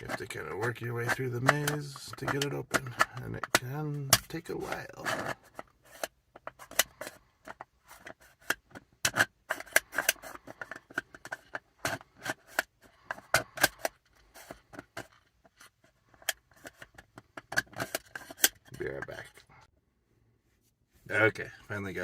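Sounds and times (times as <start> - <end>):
plastic puzzle clicks and scrapes: 0.0 - 19.6.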